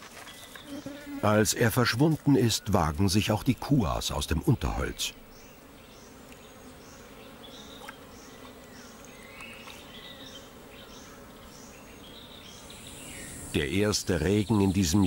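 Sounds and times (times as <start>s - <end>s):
insect calling in steady pulse: 0.5s - 15.0s.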